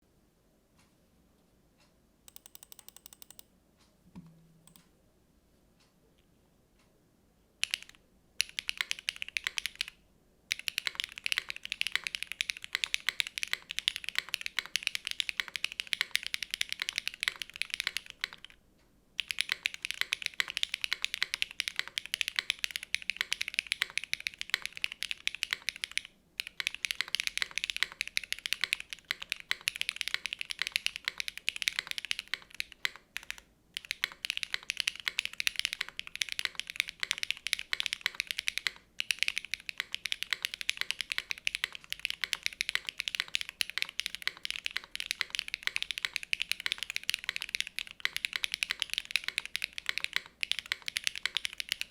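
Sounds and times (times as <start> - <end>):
mechanical keyboard typing: 2.3 - 3.5, 4.6 - 4.8, 7.6 - 18.6, 19.2 - 51.9.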